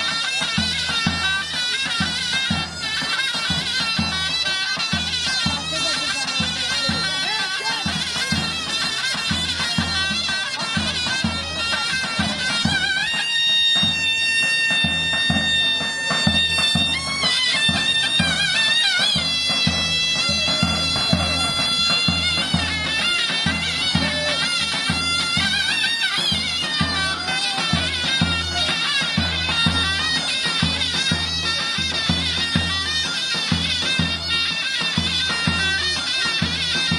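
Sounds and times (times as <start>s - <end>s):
shrill reed melody: 0.0s - 36.9s.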